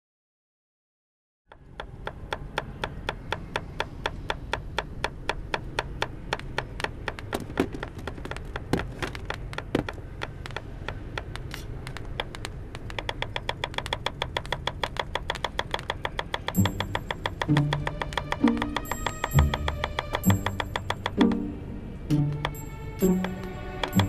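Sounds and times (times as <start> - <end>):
rapid sharp tapping: 1.5 - 21.5, 22.1 - 24.0.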